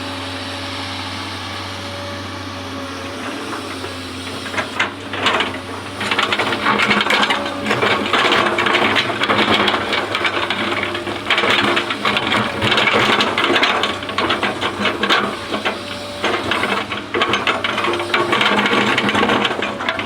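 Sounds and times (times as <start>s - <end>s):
excavator engine hum: 0.0s - 20.0s.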